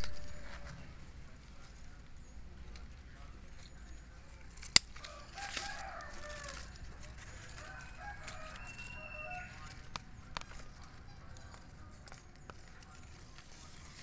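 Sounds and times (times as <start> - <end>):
drawn-out bird call: 0.0 - 14.0.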